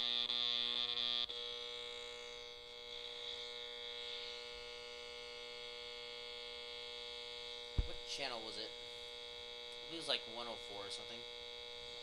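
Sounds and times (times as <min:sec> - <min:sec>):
electronic buzz with high whine: 0:00.0 - 0:12.0.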